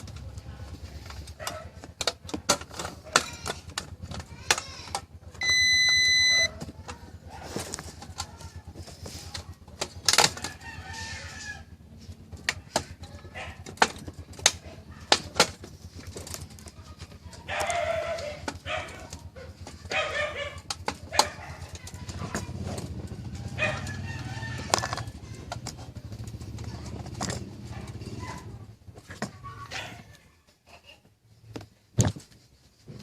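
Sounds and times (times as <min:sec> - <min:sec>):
scattered clicks and knocks: 0:00.0 - 0:11.1, 0:12.0 - 0:29.5.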